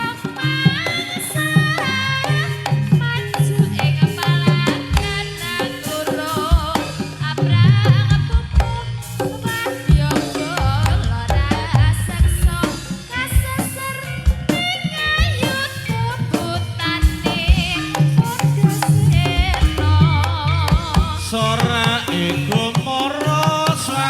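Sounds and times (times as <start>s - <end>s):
drum strokes and percussion: 0.0s - 24.0s.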